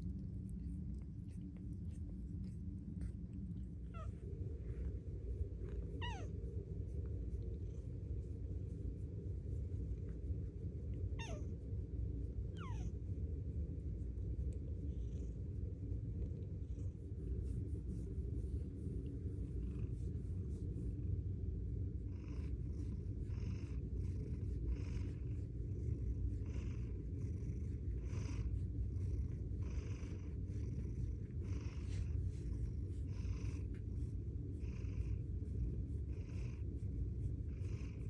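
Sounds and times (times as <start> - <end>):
cat purring: 0.0 - 38.0.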